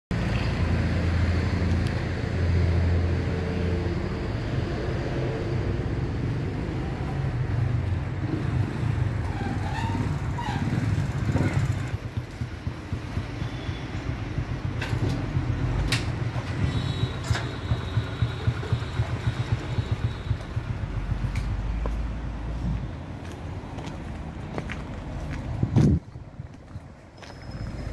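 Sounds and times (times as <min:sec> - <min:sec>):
vehicle engine humming: 0:00.1 - 0:27.9.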